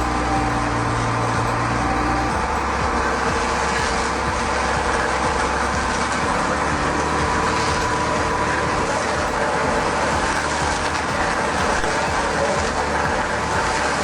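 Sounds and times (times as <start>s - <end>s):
heavy vehicle running: 0.0s - 14.0s.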